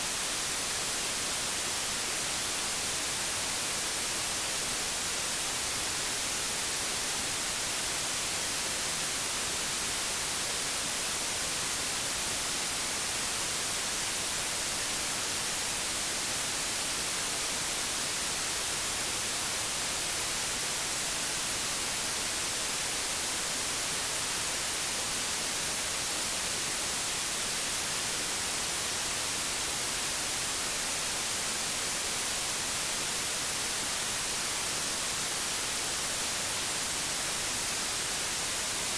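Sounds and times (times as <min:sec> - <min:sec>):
television static hiss: 0:00.0 - 0:38.9.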